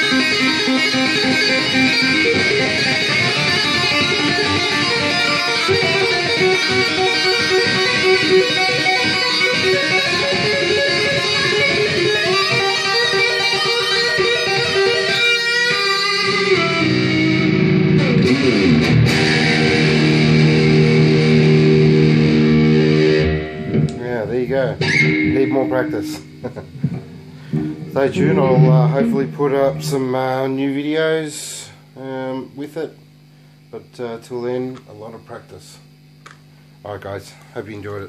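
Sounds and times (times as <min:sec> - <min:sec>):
electric guitar with reverb: 0:00.0 - 0:30.8.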